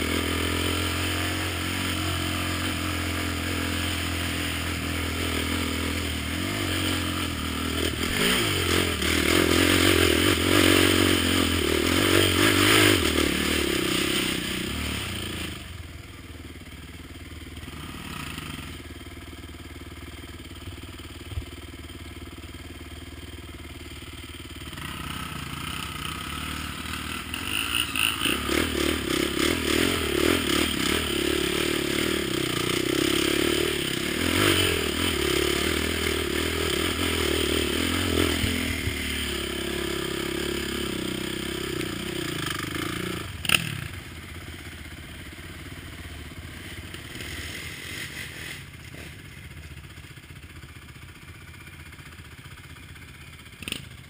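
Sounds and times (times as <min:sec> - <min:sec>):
quad engine running under load: 0:00.0 - 0:54.0.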